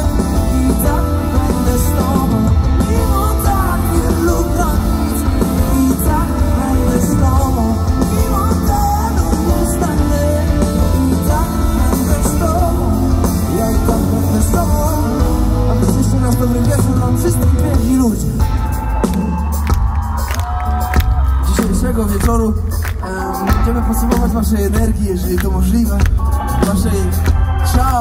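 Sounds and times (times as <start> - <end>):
man singing: 0.0 - 18.6, 21.3 - 28.0
heavy bass: 0.0 - 28.0
live band music: 0.0 - 28.0.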